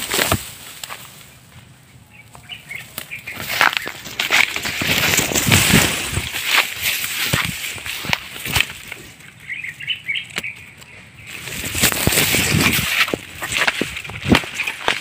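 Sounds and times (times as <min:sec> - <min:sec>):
twigs snapping: 0:00.0 - 0:01.3, 0:02.3 - 0:09.5, 0:10.1 - 0:15.0
undergrowth rustling and crackling: 0:00.0 - 0:15.0.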